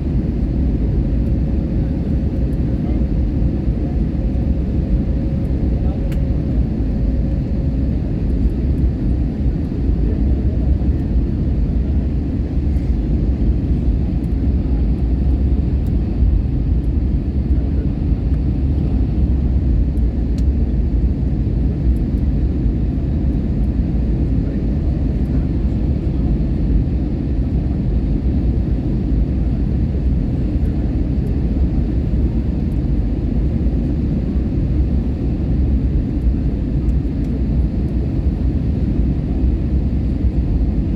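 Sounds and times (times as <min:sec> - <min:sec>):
airliner engines rumbling: 0:00.0 - 0:40.9.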